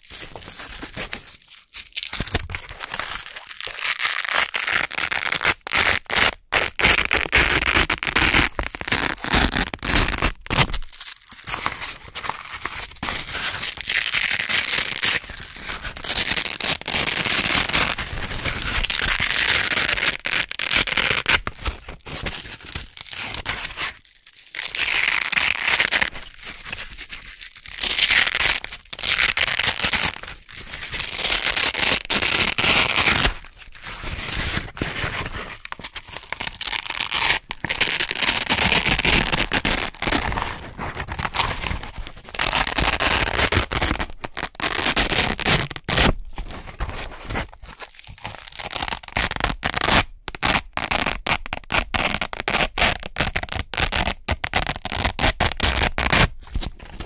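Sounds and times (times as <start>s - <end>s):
velcro ripping apart: 1.9s - 11.7s, 12.3s - 23.8s, 24.5s - 56.4s.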